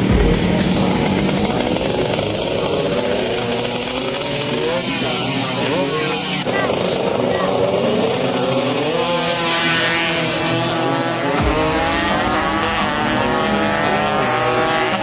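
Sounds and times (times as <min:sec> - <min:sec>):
motorbike engines revving: 0:00.0 - 0:15.0.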